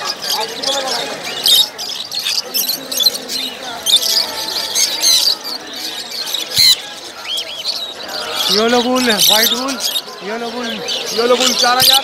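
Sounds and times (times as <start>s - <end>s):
caged birds chirping and squawking: 0.0s - 12.0s.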